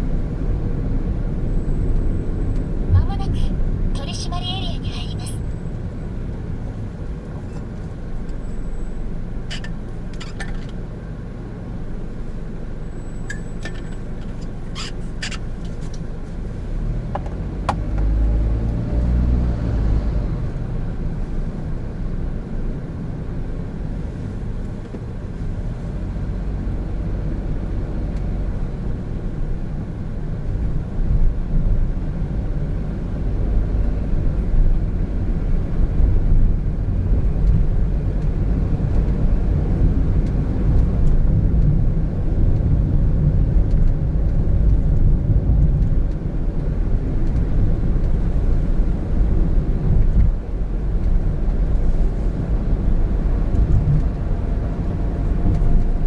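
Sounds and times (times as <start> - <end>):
car engine: 0.0 - 56.0
tyre and road rumble: 0.0 - 56.0.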